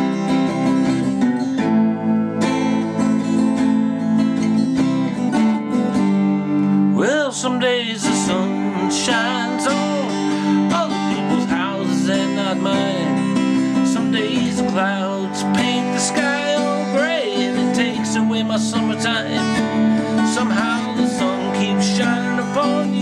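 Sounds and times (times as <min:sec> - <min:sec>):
acoustic guitar chords: 0:00.0 - 0:23.0
bending guitar melody: 0:00.0 - 0:23.0.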